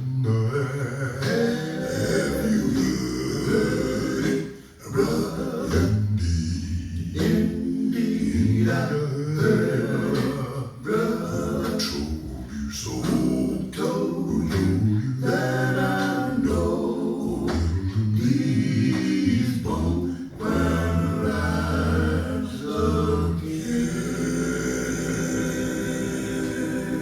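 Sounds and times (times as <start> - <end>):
male a cappella group singing: 0.0 - 27.0.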